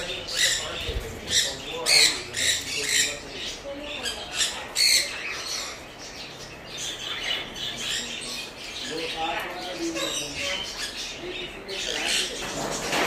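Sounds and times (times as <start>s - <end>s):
parrots squawking: 0.0s - 13.0s.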